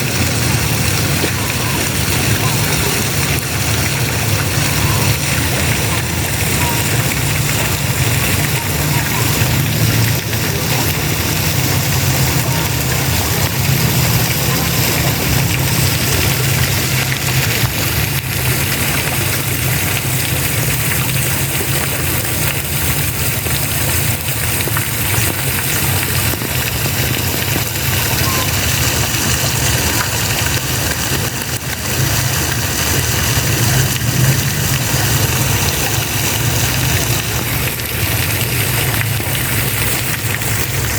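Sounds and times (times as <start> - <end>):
water spraying and splashing: 0.0 - 40.9.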